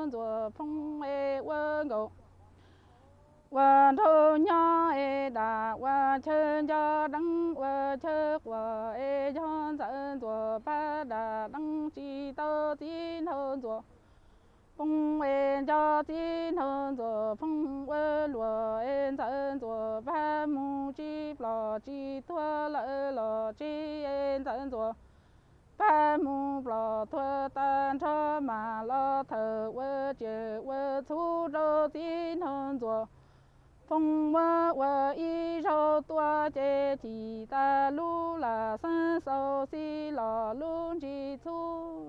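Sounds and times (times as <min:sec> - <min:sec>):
woman singing unaccompanied: 0:00.0 - 0:14.0, 0:14.6 - 0:25.0, 0:25.7 - 0:42.0.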